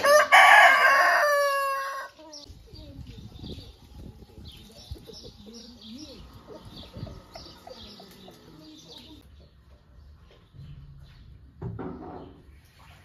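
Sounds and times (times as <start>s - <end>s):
chickens calling: 0.0s - 10.8s
small birds chirping: 1.8s - 13.0s.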